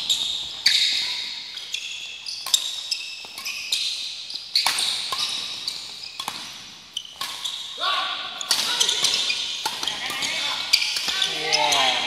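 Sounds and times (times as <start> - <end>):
shoes squeaking on floor: 0.0 - 7.8, 8.4 - 12.0
racket hitting shuttlecock: 0.1 - 7.7, 8.4 - 11.3.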